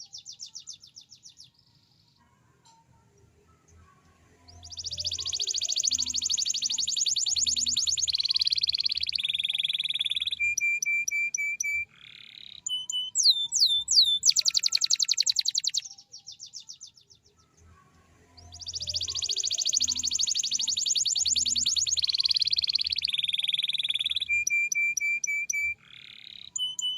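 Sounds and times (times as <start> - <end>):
canary singing trills: 0.0 - 2.2, 3.2 - 26.9.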